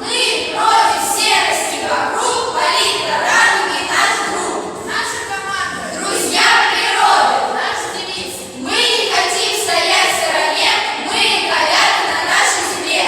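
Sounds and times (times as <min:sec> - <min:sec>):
children singing in unison: 0:00.0 - 0:13.0.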